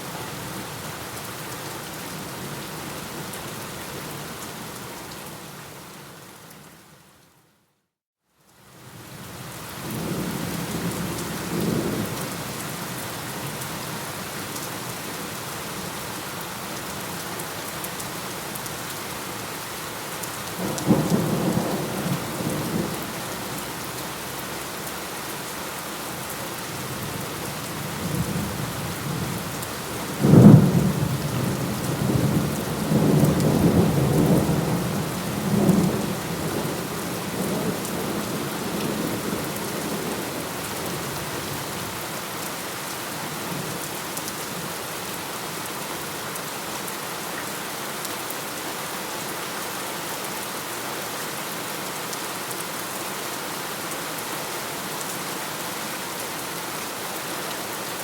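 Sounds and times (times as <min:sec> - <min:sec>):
steady rain falling: 0:00.0 - 0:07.7, 0:08.3 - 0:58.0.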